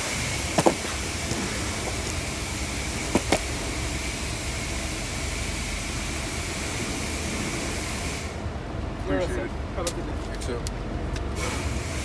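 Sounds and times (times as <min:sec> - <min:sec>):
air conditioning fan blowing: 0:00.0 - 0:12.0
car idling: 0:00.0 - 0:12.0.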